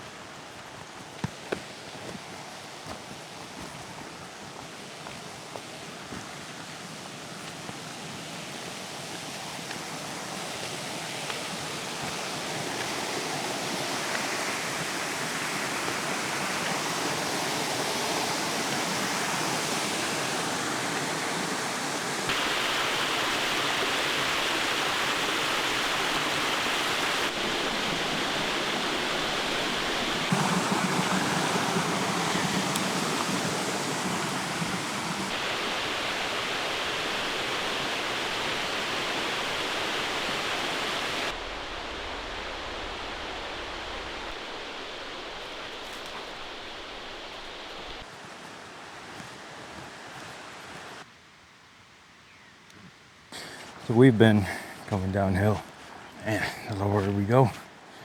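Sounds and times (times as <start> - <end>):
stream running over rocks: 0.0 - 52.0, 52.7 - 58.0.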